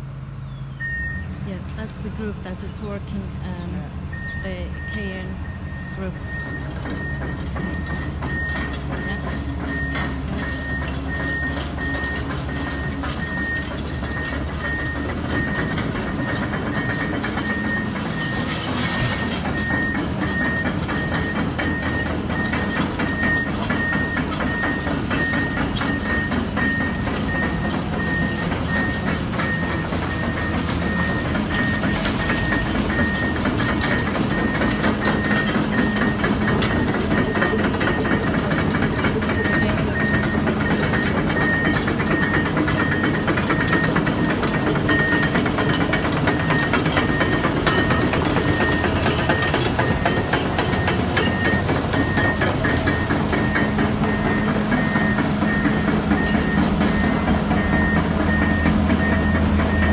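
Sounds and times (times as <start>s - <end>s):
excavator diesel engine: 0.0s - 59.9s
travel alarm beeping: 0.8s - 59.9s.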